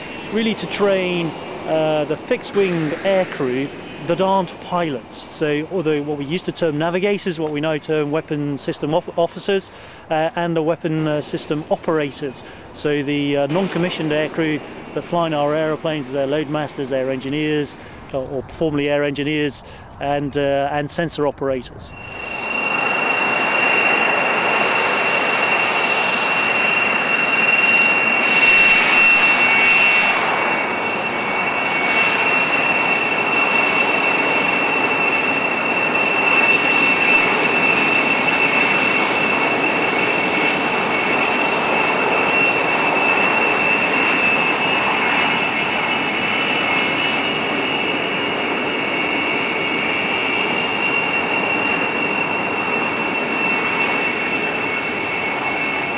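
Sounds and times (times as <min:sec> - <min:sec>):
jets taxiing: 0:00.0 - 0:55.9.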